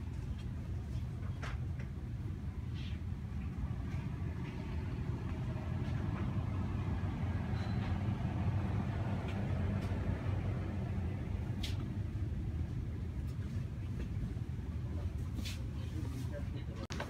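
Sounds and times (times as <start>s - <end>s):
grocery store background hum: 0.0s - 17.0s.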